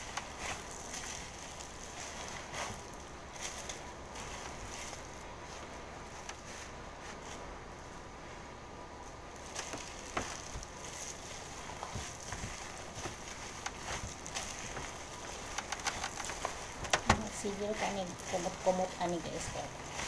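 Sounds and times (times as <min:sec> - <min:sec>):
meat mixture squishing: 0:00.0 - 0:07.0, 0:09.1 - 0:20.0.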